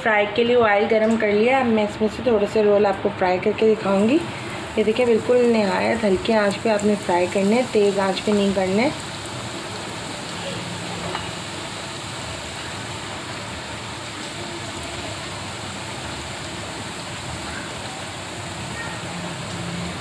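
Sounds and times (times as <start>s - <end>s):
food sizzling in hot oil: 1.4s - 20.0s.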